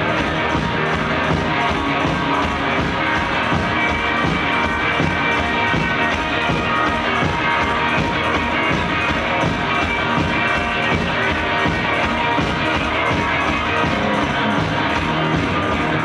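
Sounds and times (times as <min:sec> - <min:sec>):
electric guitars: 0:00.0 - 0:16.0
steady drum beat: 0:00.0 - 0:16.0.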